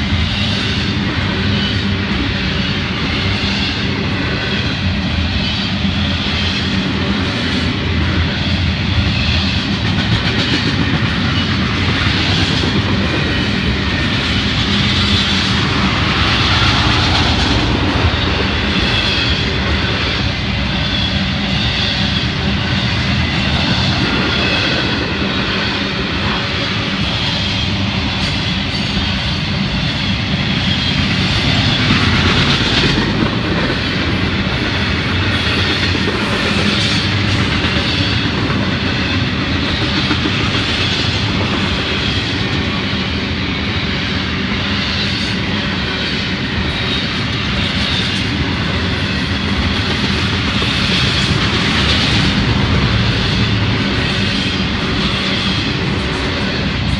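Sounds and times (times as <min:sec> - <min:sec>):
steel train wheels on rails: 0:00.0 - 0:56.9.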